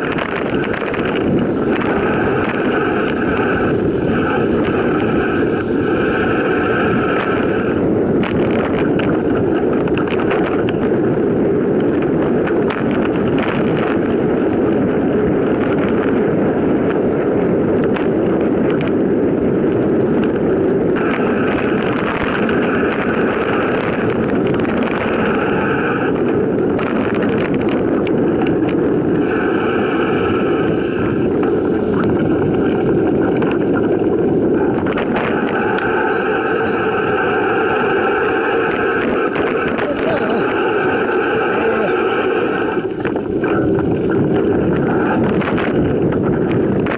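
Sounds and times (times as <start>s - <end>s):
bike clicks and rattles: 0.0s - 41.4s, 42.8s - 46.9s
wind over microphone: 0.0s - 46.9s.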